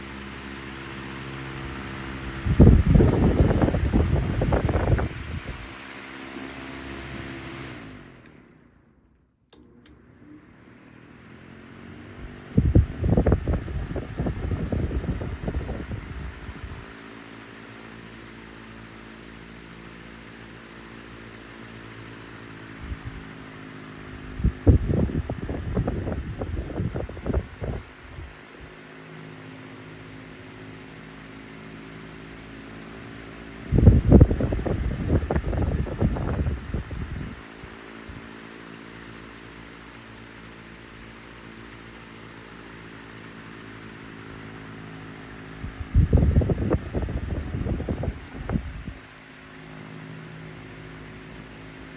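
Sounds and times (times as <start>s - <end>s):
fan air buffeting microphone: 0.0s - 8.5s, 9.6s - 51.9s
electric fan motor hum: 0.0s - 51.9s.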